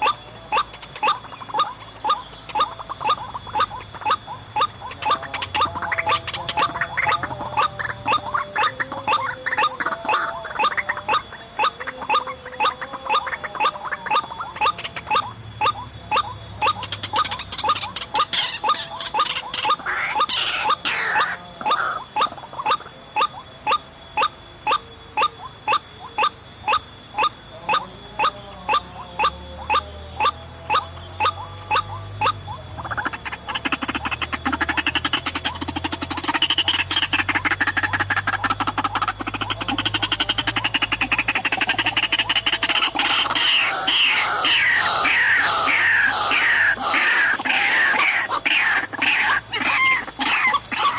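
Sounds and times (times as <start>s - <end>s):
bird calling rising notes: 0.0s - 50.9s
rough jumbled calling: 0.0s - 50.9s.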